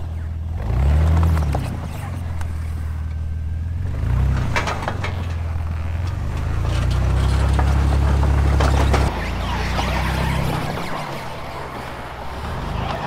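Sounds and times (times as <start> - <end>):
snowcat engine running: 0.0 - 13.0.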